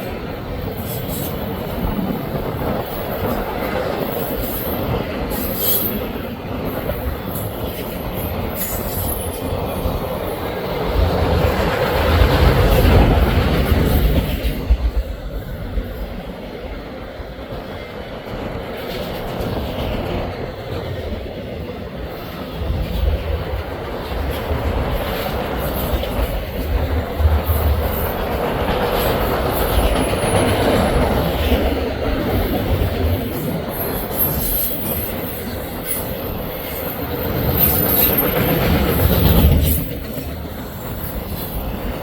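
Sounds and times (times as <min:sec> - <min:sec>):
freight train cars rolling on rails: 0:00.0 - 0:42.0.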